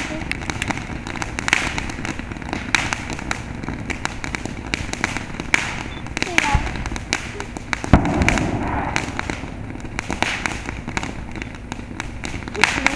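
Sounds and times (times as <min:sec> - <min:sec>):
firework hissing and crackling: 0:00.0 - 0:12.9.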